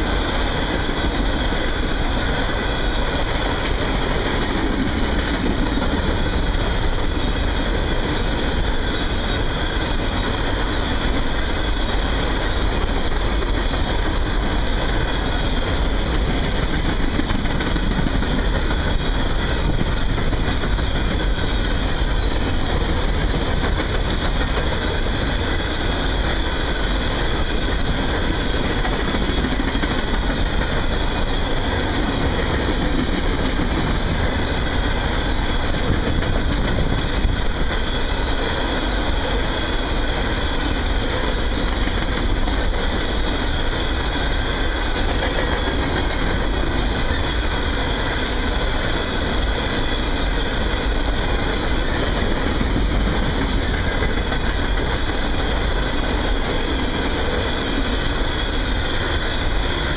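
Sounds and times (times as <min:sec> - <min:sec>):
steel wheels running on rails: 0:00.0 - 0:59.9.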